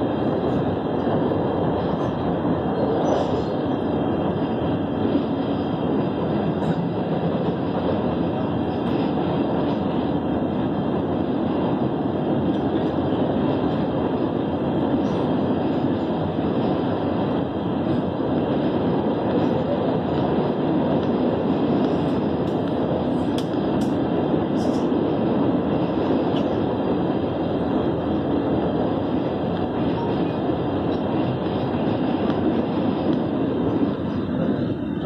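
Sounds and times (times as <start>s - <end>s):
passenger train running rumble: 0.0s - 35.0s.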